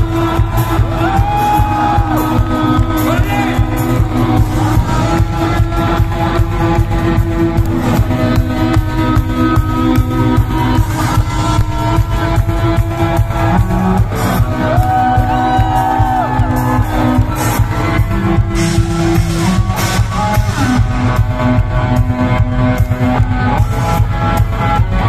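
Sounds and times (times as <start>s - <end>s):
electric guitar: 0.0s - 25.0s
heavy bass: 0.0s - 25.0s
live band playing loud music: 0.0s - 25.0s.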